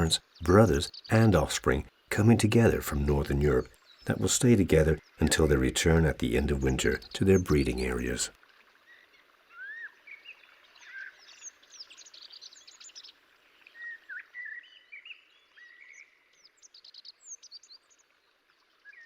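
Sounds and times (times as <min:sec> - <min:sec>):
small birds chirping: 0:00.0 - 0:08.3, 0:09.6 - 0:19.0.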